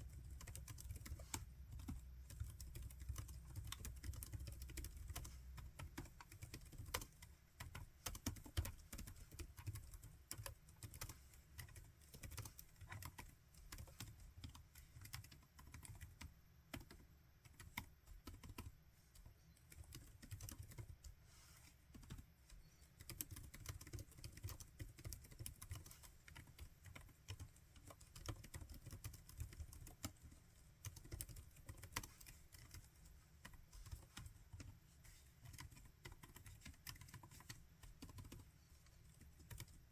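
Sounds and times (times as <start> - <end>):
laptop keyboard typing: 0.0 - 21.2, 21.8 - 39.9.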